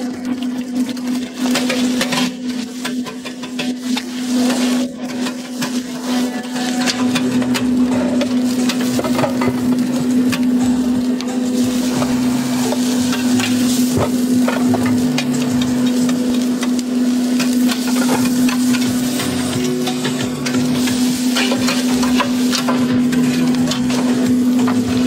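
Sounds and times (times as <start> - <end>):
frying sizzle: 0.0 - 25.0
metal spatulas scraping a griddle: 1.2 - 10.4, 11.4 - 25.0.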